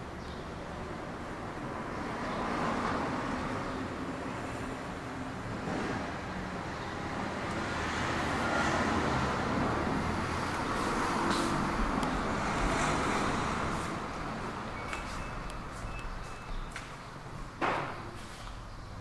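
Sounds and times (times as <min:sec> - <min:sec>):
road traffic rush: 0:00.0 - 0:19.0.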